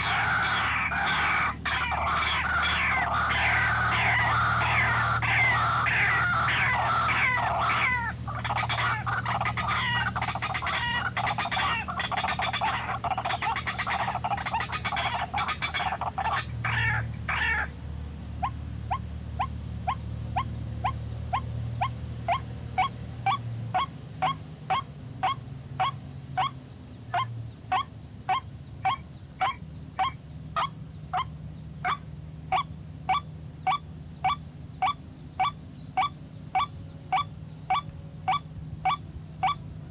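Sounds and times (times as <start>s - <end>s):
chorus of harsh bird calls: 0.0s - 39.9s
low steady hum: 0.0s - 39.9s.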